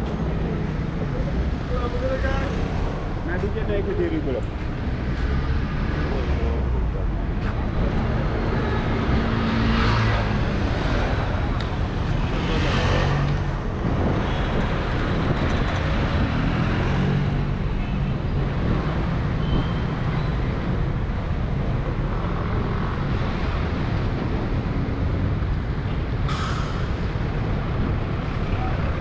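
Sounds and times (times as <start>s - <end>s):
scooters and cars passing: 0.0s - 26.2s.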